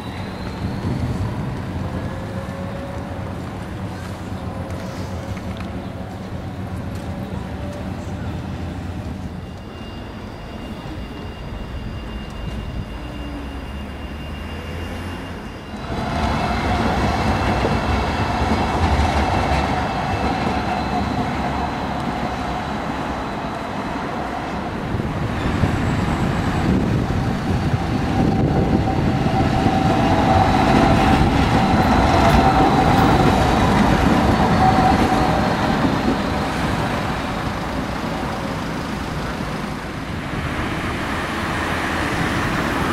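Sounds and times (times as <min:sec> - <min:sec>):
tram wheels rumbling on rails: 0:00.0 - 0:42.9.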